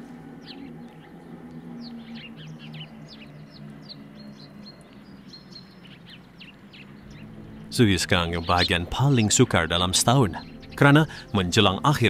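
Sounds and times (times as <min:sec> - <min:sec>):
small songbirds chirping: 0:00.0 - 0:12.0
soft background music: 0:00.0 - 0:12.0.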